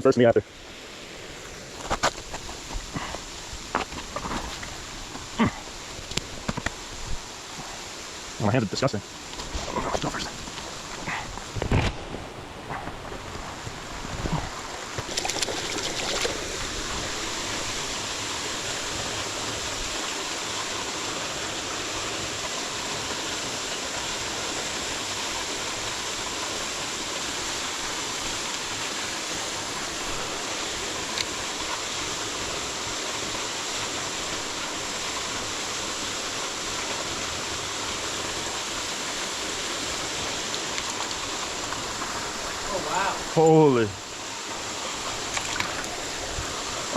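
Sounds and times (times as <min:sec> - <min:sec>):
mountain stream rushing: 0:00.0 - 0:46.9.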